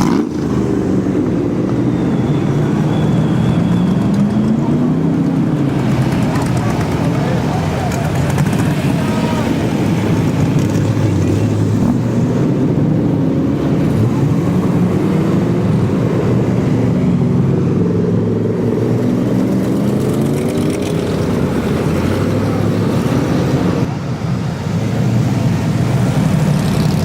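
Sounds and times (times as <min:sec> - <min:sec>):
cars driving past slowly: 0:00.0 - 0:27.0.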